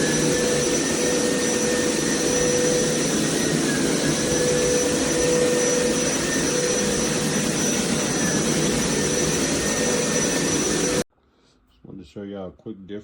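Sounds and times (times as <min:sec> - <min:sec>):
carpet cleaner whirring: 0:00.0 - 0:11.0.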